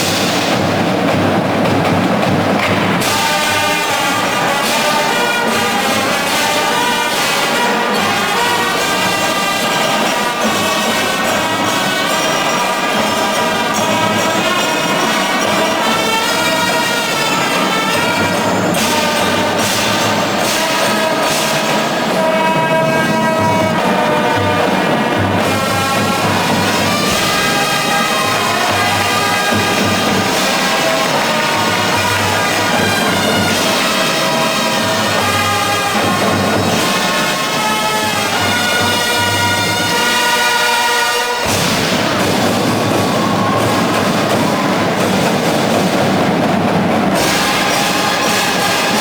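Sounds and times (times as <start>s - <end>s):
drum strokes: 0.0s - 49.0s
brass sustaining chords: 2.4s - 49.0s.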